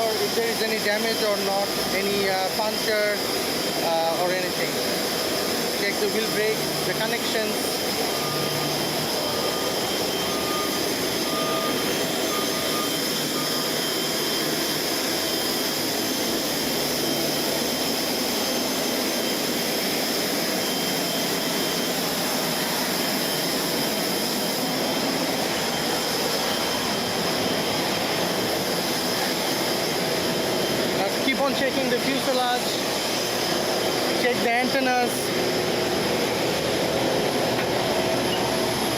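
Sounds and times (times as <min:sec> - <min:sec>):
jet turbine whining: 0:00.0 - 0:38.9.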